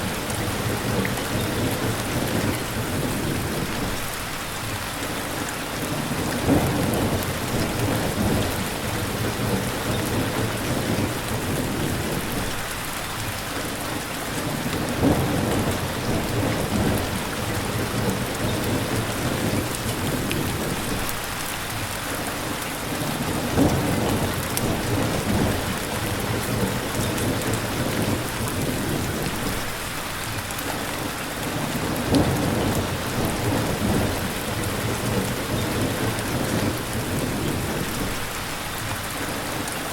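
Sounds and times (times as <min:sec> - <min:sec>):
thunder rumbling: 0:00.0 - 0:04.2, 0:05.8 - 0:12.9, 0:14.4 - 0:21.8, 0:22.4 - 0:29.9, 0:31.5 - 0:39.7
heavy rain falling: 0:00.0 - 0:39.9.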